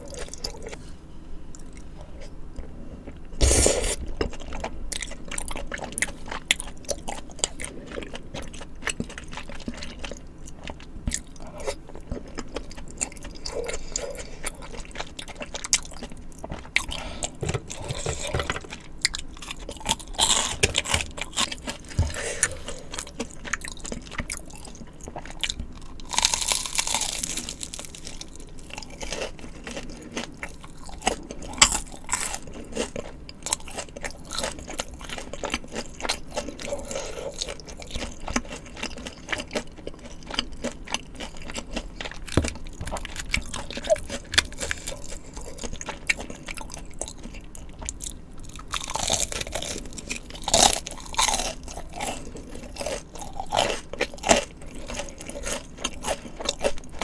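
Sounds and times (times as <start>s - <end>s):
wet chewing and crunching: 0.0s - 0.8s, 1.5s - 57.0s.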